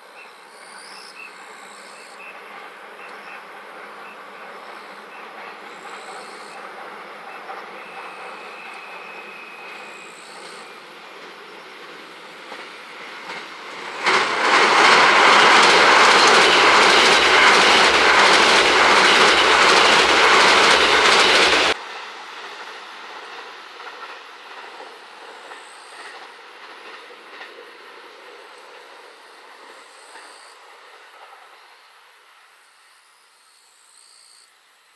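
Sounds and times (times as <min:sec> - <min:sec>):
train passing over steel bridge: 0:00.0 - 0:32.8.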